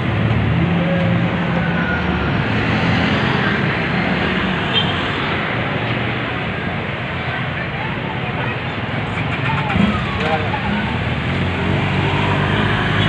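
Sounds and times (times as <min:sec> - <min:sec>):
steady traffic din: 0:00.0 - 0:13.0.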